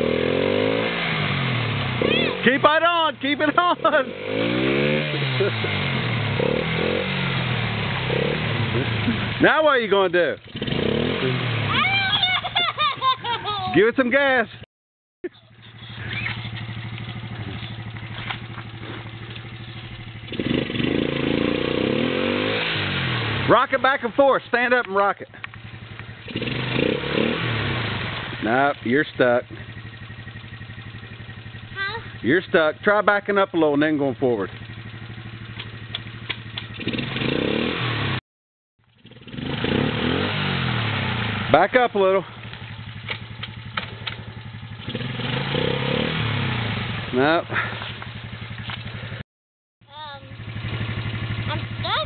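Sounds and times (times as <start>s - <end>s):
quad engine revving: 0.0s - 13.9s, 15.4s - 38.2s, 38.9s - 49.2s, 50.0s - 52.0s.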